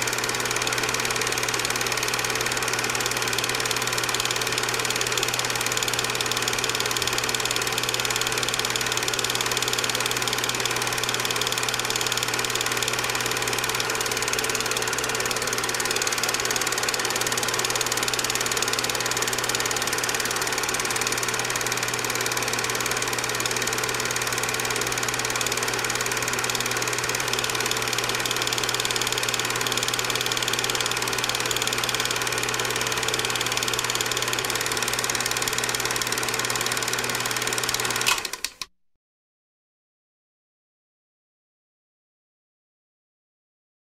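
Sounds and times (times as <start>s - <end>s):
film projector mechanical whir: 0.0s - 38.7s.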